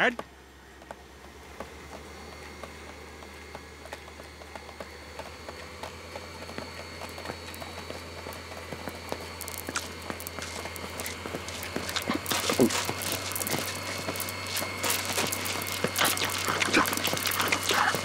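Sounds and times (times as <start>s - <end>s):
conveyor belt humming: 0.0s - 18.0s.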